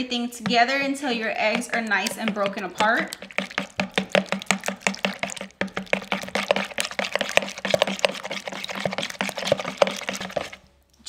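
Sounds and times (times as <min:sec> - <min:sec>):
liquid batter sloshing: 0:00.0 - 0:11.0
whisk clicking against bowl: 0:00.4 - 0:10.6.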